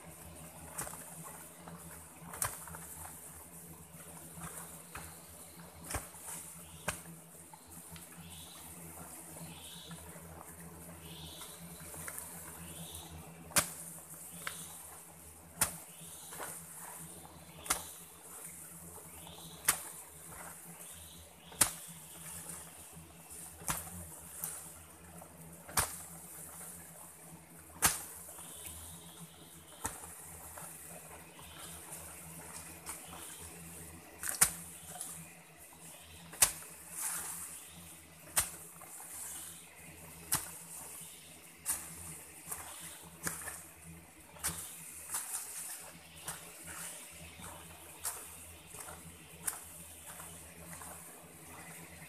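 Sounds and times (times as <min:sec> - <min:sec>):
loose soil scattering: 0:00.0 - 0:52.0.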